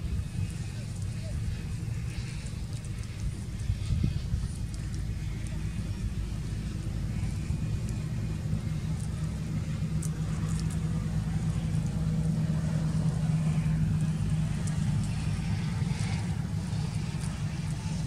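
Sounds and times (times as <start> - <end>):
engine humming: 0.0 - 18.0
faint light ticks: 1.9 - 18.0.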